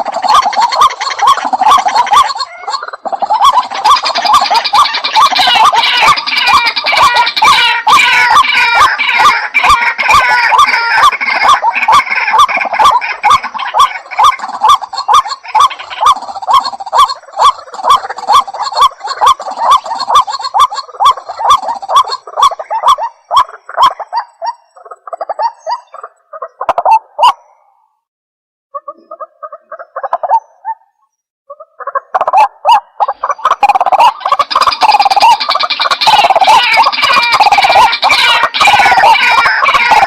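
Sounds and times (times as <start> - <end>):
waterhen croaking calls: 0.0 - 27.9, 28.7 - 40.0.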